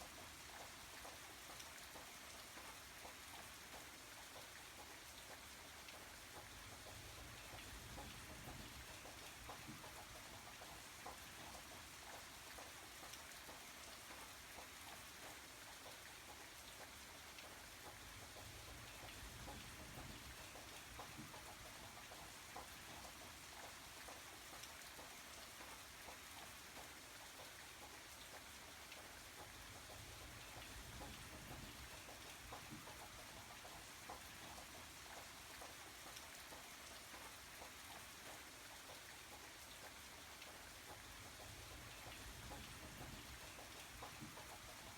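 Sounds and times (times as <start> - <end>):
rain drops pattering: 0.0 - 44.9.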